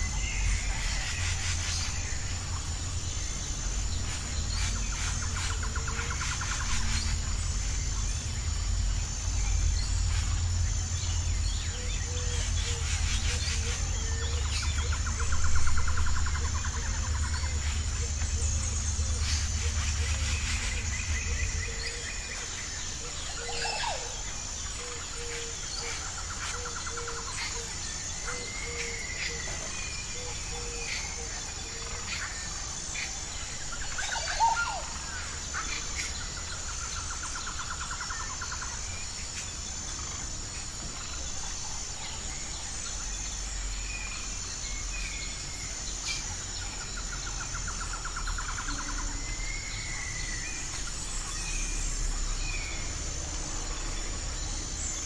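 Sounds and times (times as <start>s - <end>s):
high-pitched insect trill: 0.0s - 55.0s
low evenly spaced bird notes: 0.0s - 55.0s.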